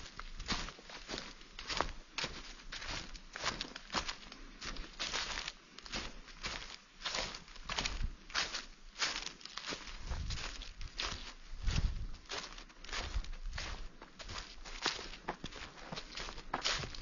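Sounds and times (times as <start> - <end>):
footsteps in dry leaves: 0.0 - 17.0.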